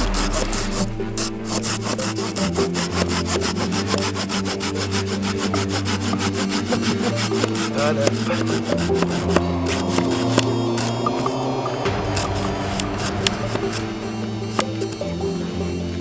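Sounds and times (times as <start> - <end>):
hand saw cutting tree limb: 0.0 - 15.4.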